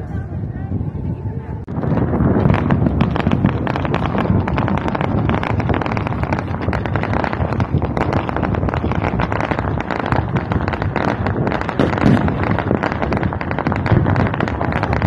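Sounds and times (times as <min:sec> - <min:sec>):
low rumble: 0:00.0 - 0:15.0
fireworks crackling and popping: 0:01.7 - 0:15.0.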